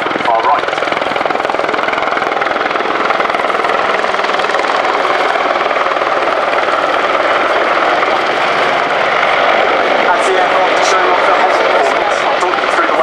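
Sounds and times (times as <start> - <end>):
helicopter rotor and turbine noise: 0.0 - 13.0.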